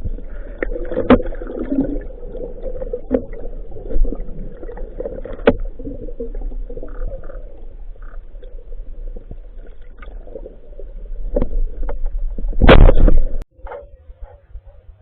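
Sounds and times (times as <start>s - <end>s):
muffled underwater bubbling: 0.0s - 14.8s.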